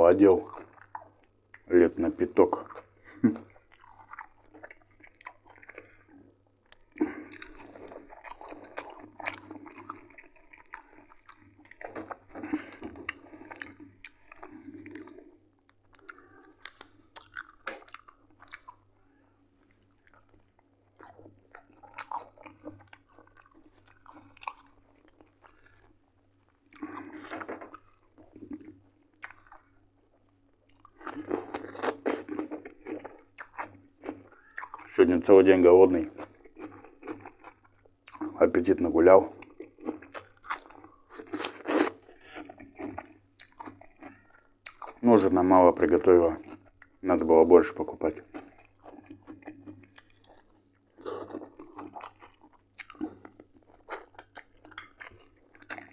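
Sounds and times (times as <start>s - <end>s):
crunching cucumber being chewed: 0.2s - 55.9s
chewing and biting chicken: 2.4s - 55.9s.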